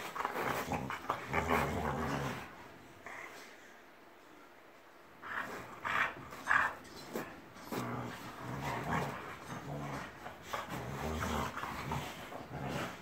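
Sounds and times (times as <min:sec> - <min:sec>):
dogs growling: 0:00.0 - 0:03.5, 0:05.2 - 0:13.0.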